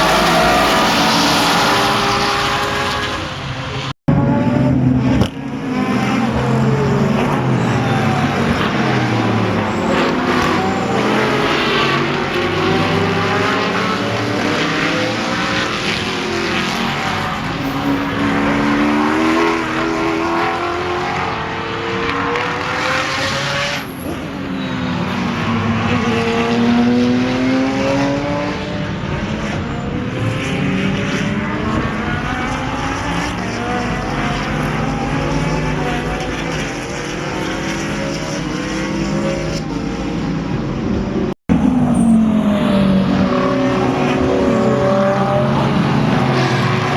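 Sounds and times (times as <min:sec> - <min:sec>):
racing car engines passing: 0:00.0 - 0:46.9.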